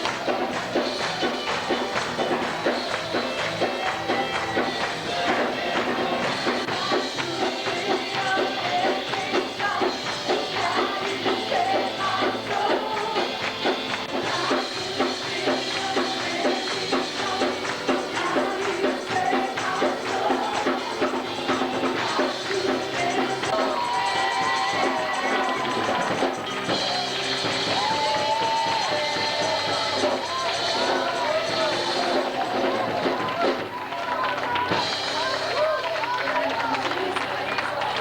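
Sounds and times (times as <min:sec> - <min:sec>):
band playing church music: 0:00.0 - 0:38.0
tambourine beat: 0:00.0 - 0:38.0.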